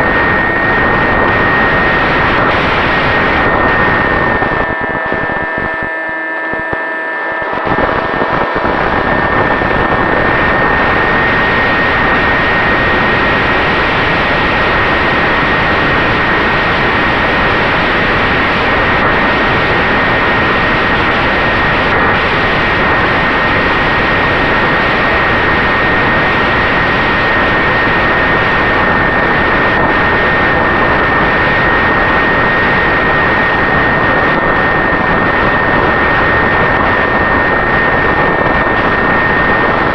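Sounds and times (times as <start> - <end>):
electric motor high whine: 0.0 - 39.8
wind rush on microphone: 0.0 - 39.9.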